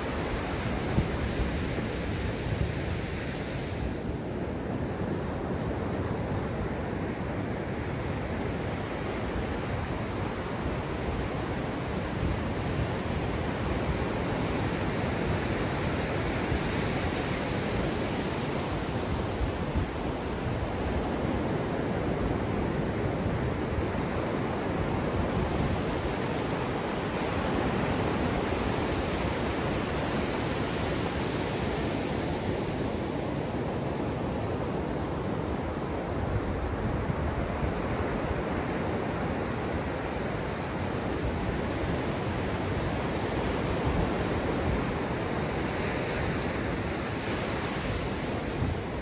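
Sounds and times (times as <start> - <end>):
ocean surf washing over sand: 0.0 - 49.0.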